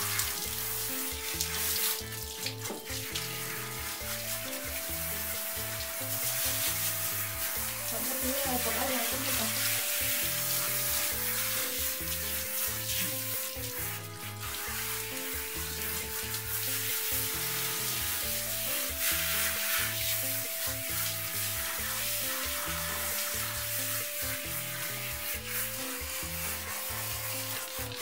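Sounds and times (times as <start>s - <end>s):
background music with bass line: 0.0s - 28.0s
shower water spraying: 0.0s - 28.0s.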